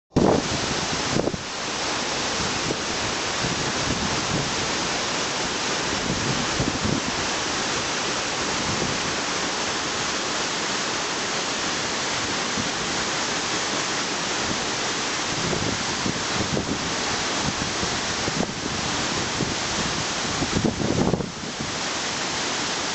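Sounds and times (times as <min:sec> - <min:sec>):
waterfall rushing: 0:00.1 - 0:22.9.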